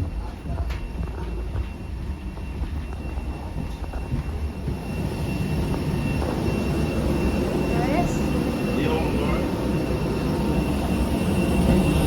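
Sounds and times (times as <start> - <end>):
high-pitched engine whine: 0.0 - 12.0
jet aircraft engine rumble: 0.0 - 12.0.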